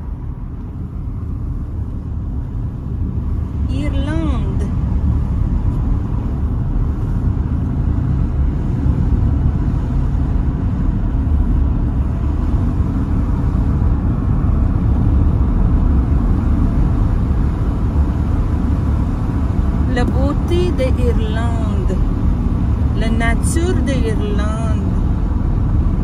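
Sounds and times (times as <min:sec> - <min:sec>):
car interior road rumble: 0:00.0 - 0:26.0.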